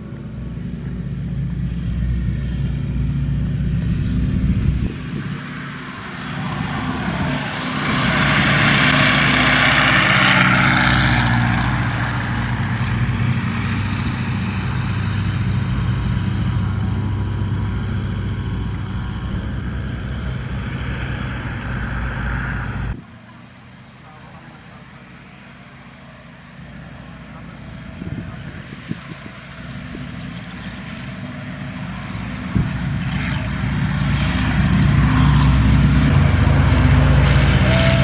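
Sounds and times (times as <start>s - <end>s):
propeller plane passing: 0.0s - 38.0s.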